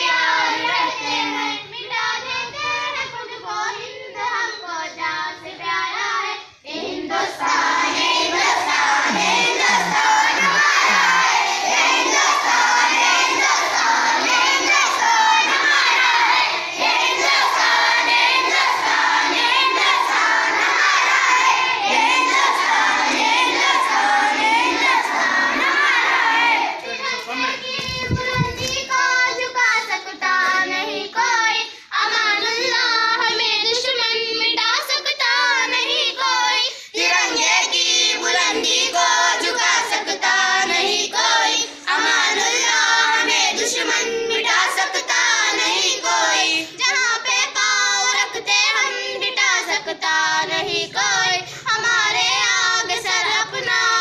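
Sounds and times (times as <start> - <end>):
large group of children singing: 0.0 - 54.0
small group of children singing: 0.0 - 54.0.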